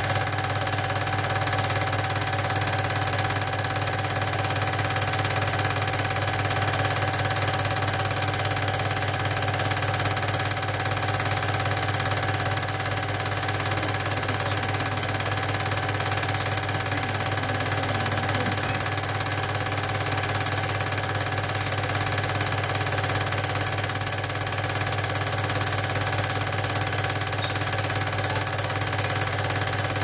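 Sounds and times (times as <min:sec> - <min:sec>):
film projector whirring: 0:00.0 - 0:30.0.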